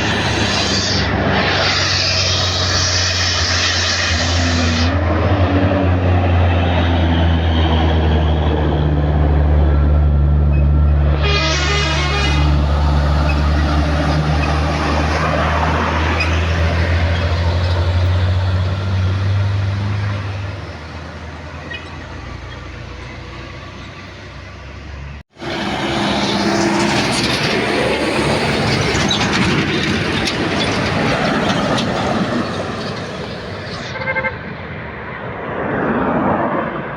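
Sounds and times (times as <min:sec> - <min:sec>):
truck diesel engine droning: 0:00.0 - 0:34.9
rough engine and road noise: 0:00.0 - 0:36.9.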